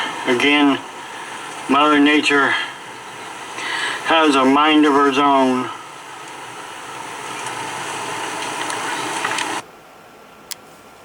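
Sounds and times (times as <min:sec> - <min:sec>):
heavy rain pouring: 0:00.0 - 0:09.6
ticks of raindrops: 0:00.0 - 0:09.6.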